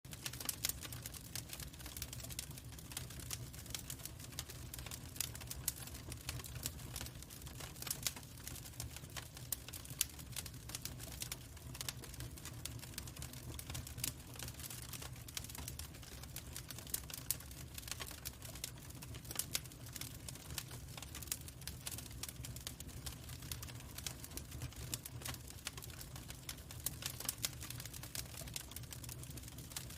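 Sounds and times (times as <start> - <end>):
burning wood popping and snapping: 0.1 - 29.9
low rumble of flames: 0.1 - 29.9.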